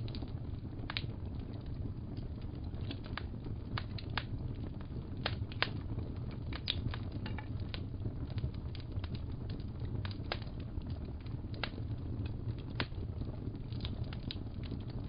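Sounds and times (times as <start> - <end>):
fire crackling and popping: 0.0 - 15.0
low rumble of burning: 0.0 - 15.0.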